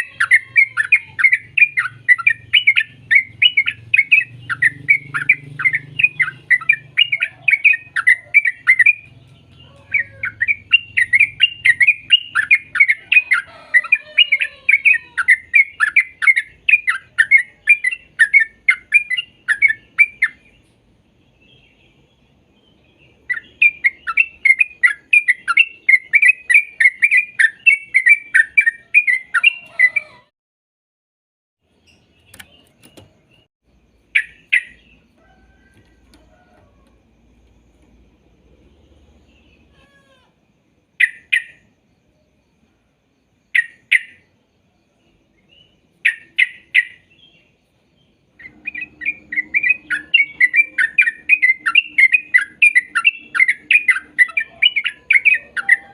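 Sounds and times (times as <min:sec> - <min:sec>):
bird chirping song: 0:00.0 - 0:30.3, 0:31.6 - 0:55.9.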